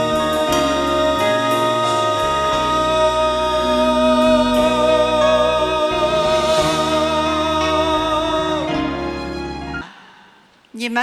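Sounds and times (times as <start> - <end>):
ballad singing with vibrato: 0.0 - 10.8
instrumental backing: 0.0 - 10.8.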